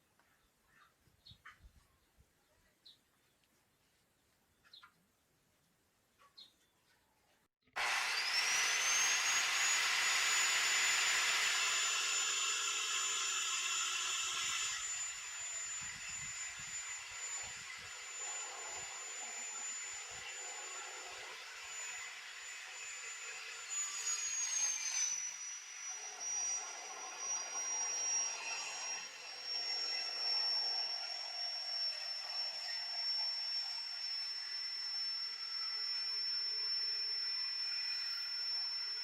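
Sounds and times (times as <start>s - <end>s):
cut-off saw motor whine: 7.8s - 39.0s.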